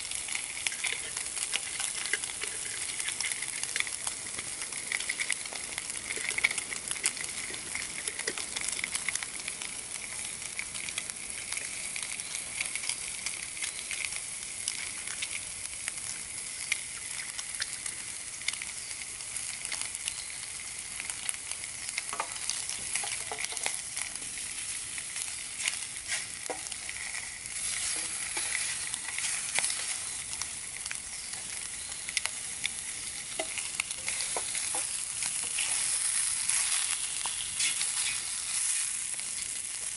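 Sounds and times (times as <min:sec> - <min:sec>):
bacon sizzling in a frying pan: 0:00.0 - 0:39.9.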